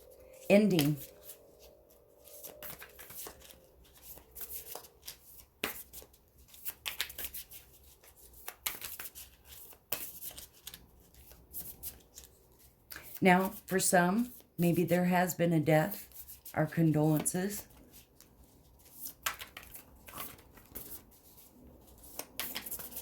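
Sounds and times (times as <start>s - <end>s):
cards being shuffled: 0.0s - 13.8s, 17.1s - 23.0s.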